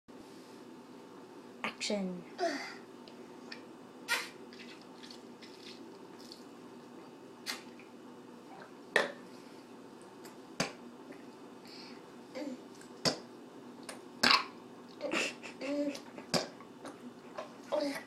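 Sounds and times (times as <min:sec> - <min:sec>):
faint steady hum: 0:00.1 - 0:18.0.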